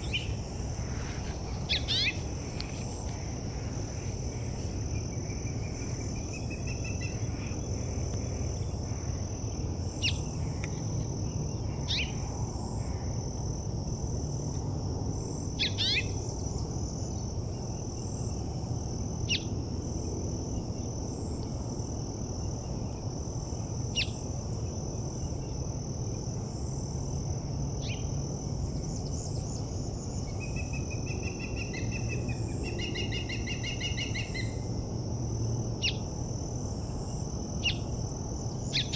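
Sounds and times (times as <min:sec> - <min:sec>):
pulsing insect chorus: 0:00.0 - 0:38.9.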